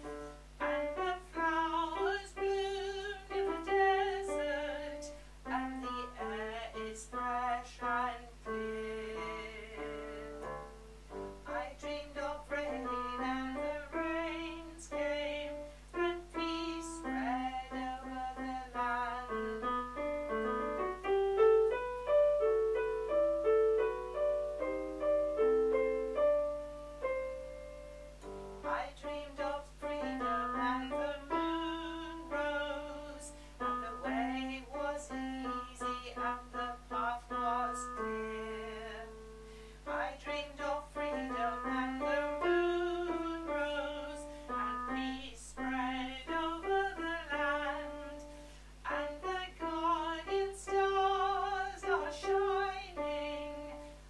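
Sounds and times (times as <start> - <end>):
piano playing: 0.0 - 6.6, 8.5 - 54.0
woman singing: 0.0 - 10.8, 11.4 - 21.8, 28.6 - 54.0.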